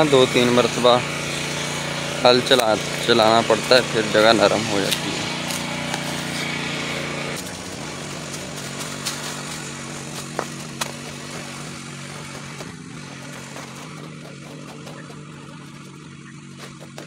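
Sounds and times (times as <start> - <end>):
tractor engine humming: 0.0 - 17.0
hoe chopping into soil: 1.2 - 17.0.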